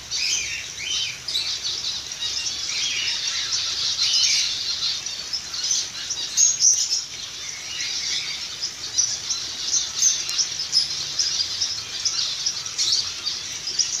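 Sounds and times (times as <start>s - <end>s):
finches chirping and calling: 0.0s - 14.0s.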